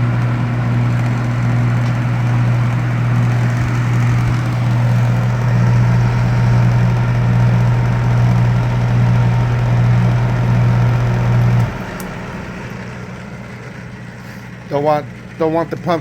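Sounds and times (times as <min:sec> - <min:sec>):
condensate pump humming: 0:00.0 - 0:16.0
dehumidifier running: 0:00.0 - 0:16.0.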